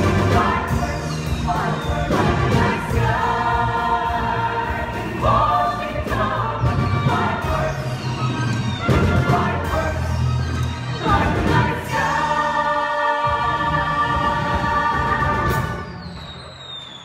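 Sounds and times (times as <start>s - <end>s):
chorus singing: 0.0s - 16.2s
band accompaniment: 0.0s - 16.8s.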